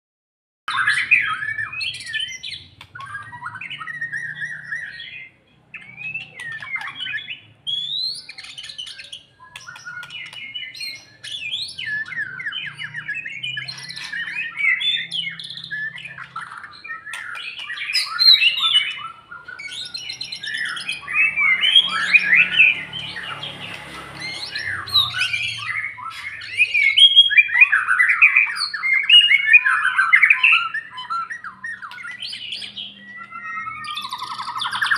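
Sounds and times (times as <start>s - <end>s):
bird singing whistles and chatter: 0.7s - 34.9s.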